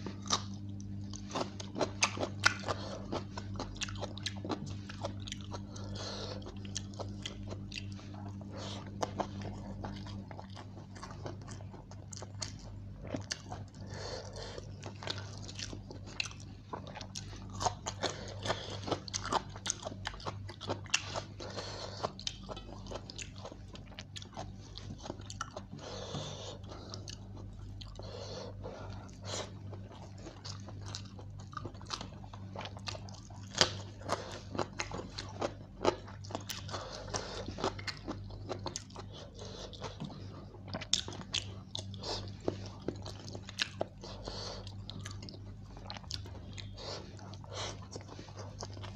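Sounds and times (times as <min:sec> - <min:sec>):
chewing and lip-smacking: 0:00.0 - 0:48.9.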